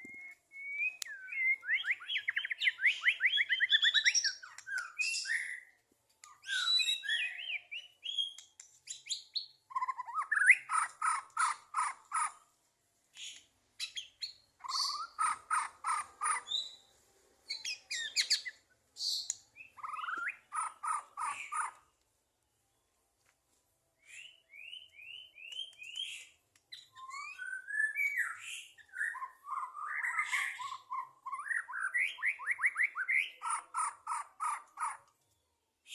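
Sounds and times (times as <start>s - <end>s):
songbird singing: 0.0s - 12.4s, 13.2s - 22.0s, 24.0s - 35.9s.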